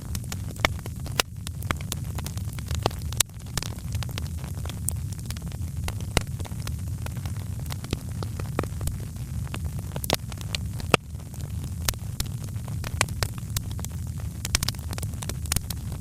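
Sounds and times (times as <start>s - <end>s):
wood fire crackling: 0.2s - 16.0s.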